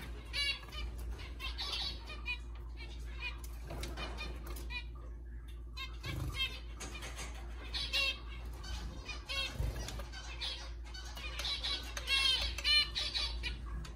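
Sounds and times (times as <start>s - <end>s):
finches chirping: 0.0s - 13.9s
low steady hum: 0.0s - 13.9s.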